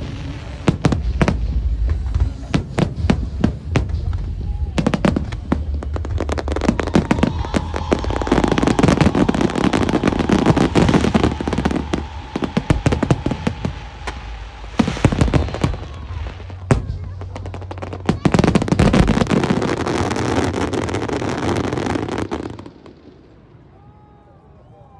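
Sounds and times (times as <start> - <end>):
fireworks bangs and crackles: 0.0 - 23.6.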